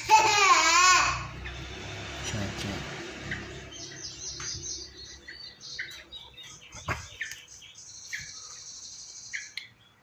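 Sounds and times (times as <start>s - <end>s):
bird chicks chirping: 0.0s - 10.0s.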